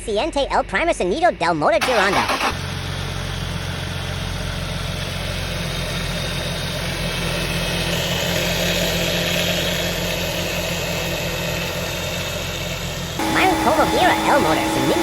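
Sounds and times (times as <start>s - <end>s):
car engine idling: 2.2s - 15.0s.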